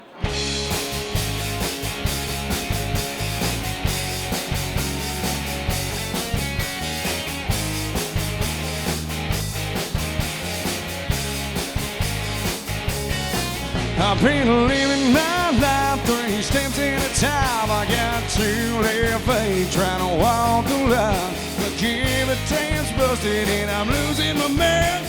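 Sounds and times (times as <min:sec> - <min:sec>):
country-rock band playing: 0:00.0 - 0:25.0.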